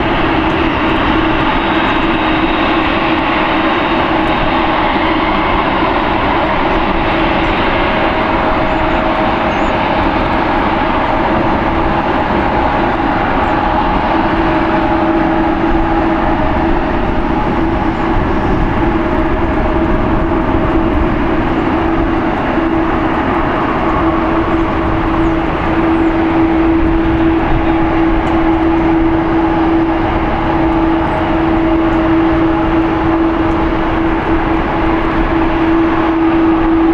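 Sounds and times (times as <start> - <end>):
jet engines roaring: 0.0 - 36.9.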